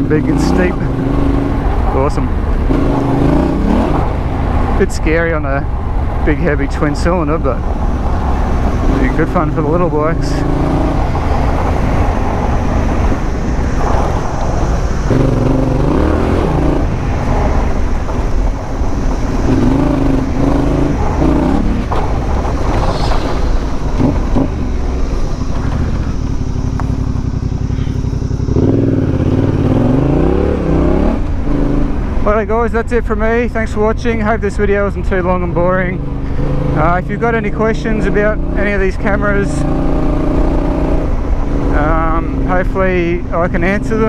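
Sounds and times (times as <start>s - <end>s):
motorcycle engine revving: 0.0s - 32.3s, 35.2s - 44.0s
steady rushing noise: 0.0s - 44.0s.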